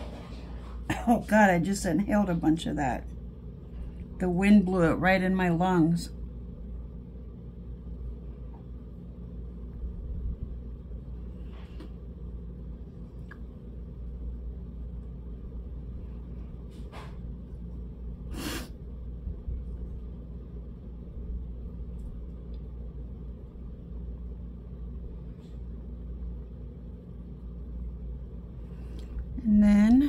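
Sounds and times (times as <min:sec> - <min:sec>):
fan air rumble: 0:00.0 - 0:30.0.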